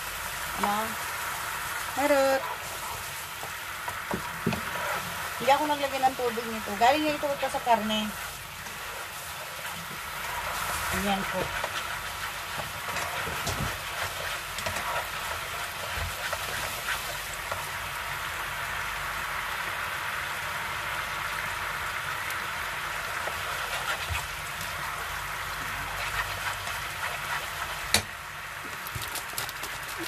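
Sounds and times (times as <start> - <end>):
broth sizzling and bubbling in a pan: 0.0 - 30.0.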